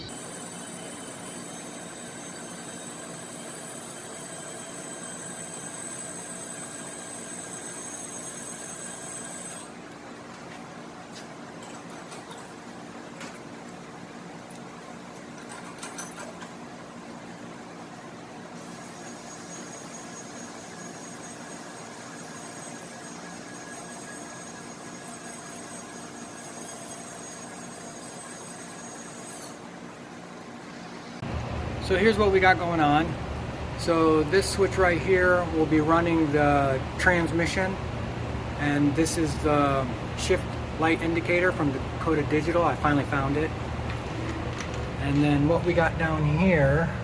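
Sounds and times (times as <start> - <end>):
electric fan whirring: 0.0 - 47.0.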